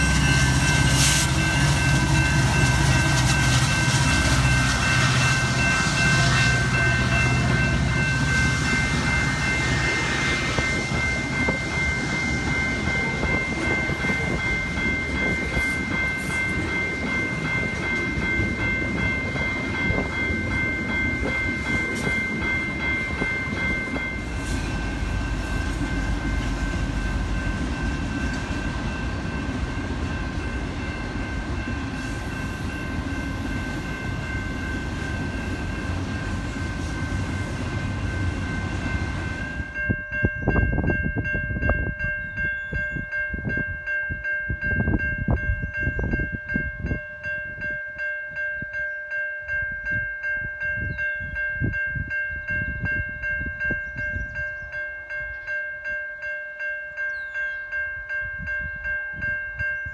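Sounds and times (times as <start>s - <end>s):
train rumbling past: 0.0s - 56.3s
crossing warning bells ringing: 0.0s - 59.9s.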